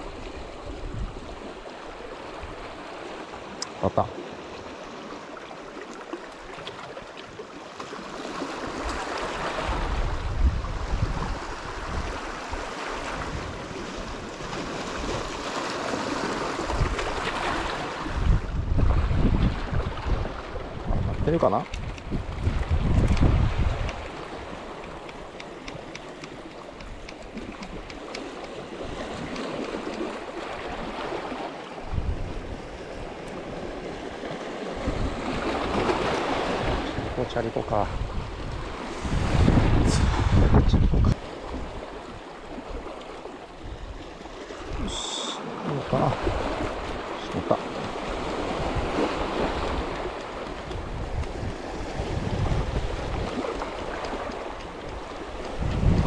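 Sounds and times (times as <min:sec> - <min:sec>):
wind rumbling on microphone: 0:00.0 - 0:02.8, 0:08.6 - 0:56.0
surf washing: 0:00.0 - 0:56.0.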